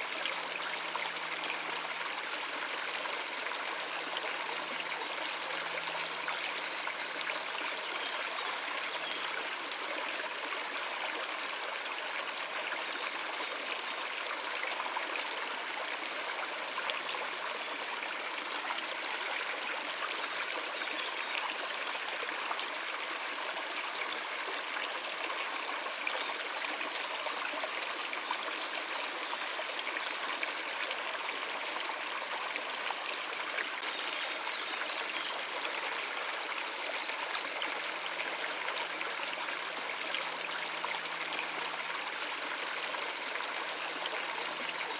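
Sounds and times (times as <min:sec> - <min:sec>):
stream water over rocks: 0:00.0 - 0:44.9.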